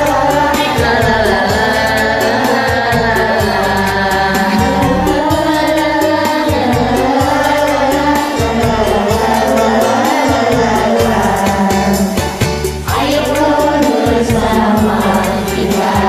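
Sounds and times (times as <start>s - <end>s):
backing track with bass beat: 0.0s - 16.0s
group singing karaoke: 0.0s - 16.0s.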